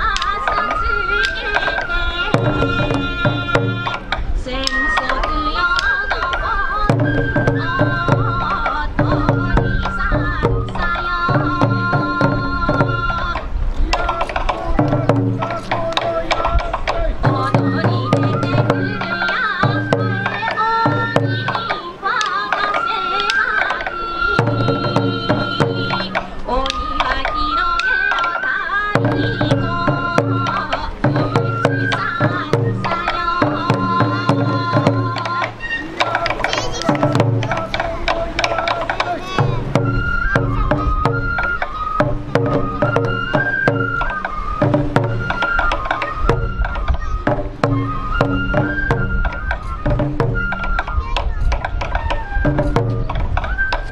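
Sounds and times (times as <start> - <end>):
bamboo flute melody: 0.0 - 53.9
taiko drums beating: 0.0 - 53.9.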